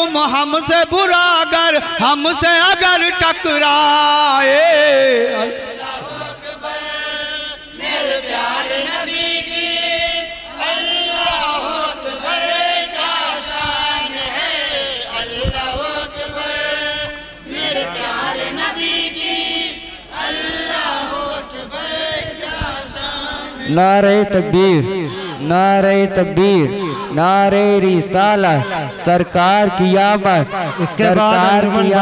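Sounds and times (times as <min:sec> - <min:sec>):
men chanting over loudspeakers: 0:00.0 - 0:32.0.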